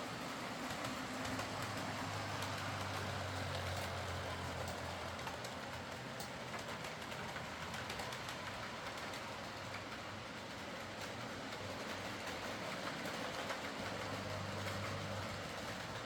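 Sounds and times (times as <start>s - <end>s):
wheels clicking over rails: 0.0s - 16.0s.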